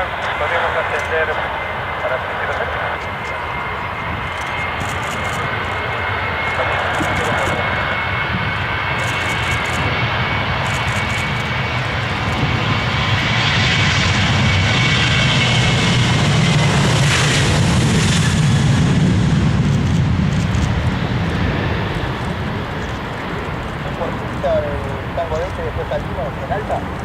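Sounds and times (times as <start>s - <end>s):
airliner engines passing by: 0.0s - 27.0s.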